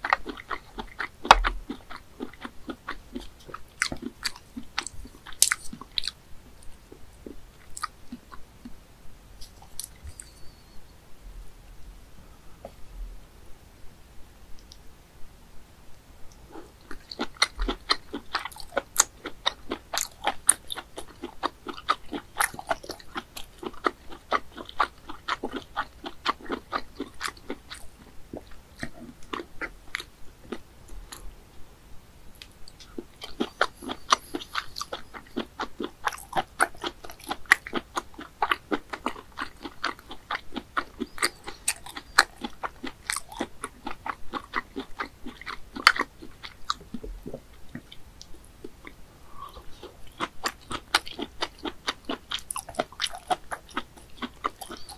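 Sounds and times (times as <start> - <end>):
mouth chewing wet crunches: 0.0 - 8.8, 9.4 - 10.6, 16.3 - 31.3, 32.4 - 54.9.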